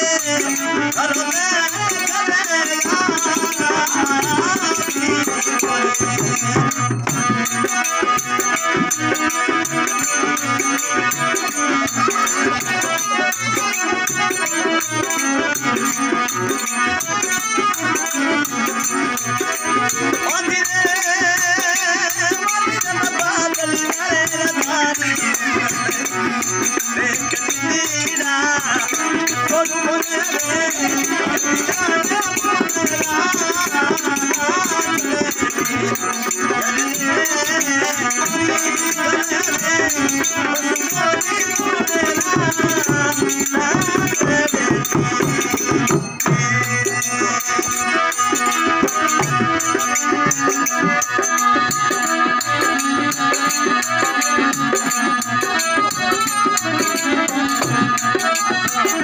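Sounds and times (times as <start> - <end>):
dholak drum beat: 0.0 - 59.0
harmonium: 0.0 - 59.0
man singing: 0.0 - 59.0.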